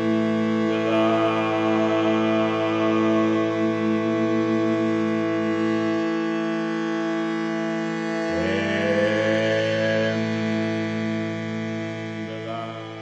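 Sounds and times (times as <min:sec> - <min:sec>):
droning held notes: 0:00.0 - 0:13.0.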